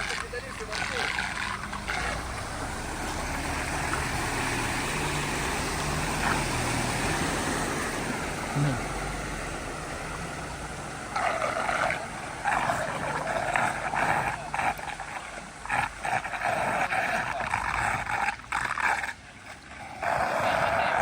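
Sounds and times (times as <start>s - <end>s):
water rushing into a drain: 0.0s - 21.0s.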